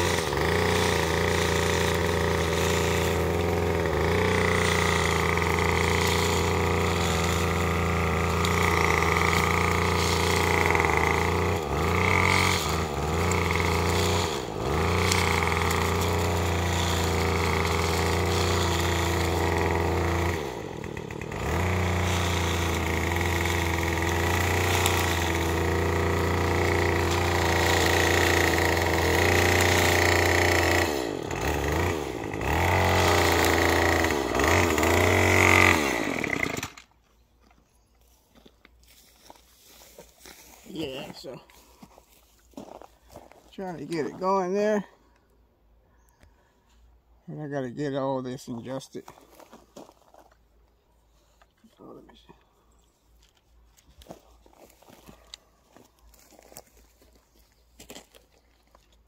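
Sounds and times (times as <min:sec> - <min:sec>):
string trimmer engine idling unevenly: 0:00.0 - 0:37.6, 0:38.3 - 0:45.3, 0:48.9 - 0:59.0.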